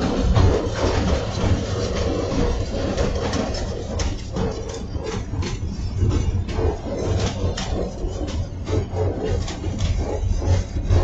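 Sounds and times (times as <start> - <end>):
diesel locomotive engine rumble: 0.0 - 11.0
wheels clicking over rail joints: 0.0 - 11.0.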